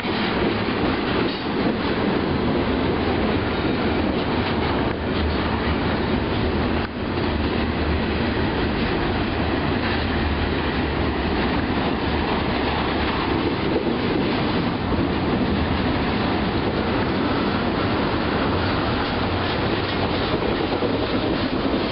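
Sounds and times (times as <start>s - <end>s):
freight train wheels rumbling: 0.0s - 21.9s.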